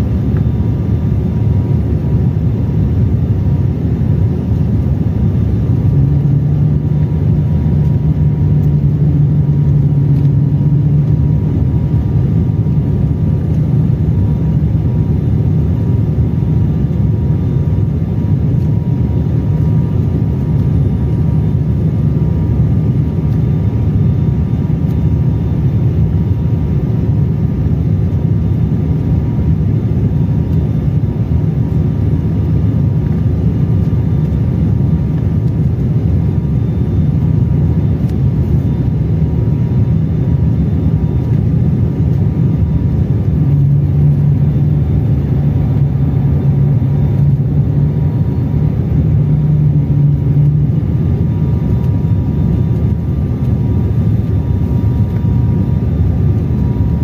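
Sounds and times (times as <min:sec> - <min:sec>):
propeller and engine drone: 0:00.0 - 0:57.0.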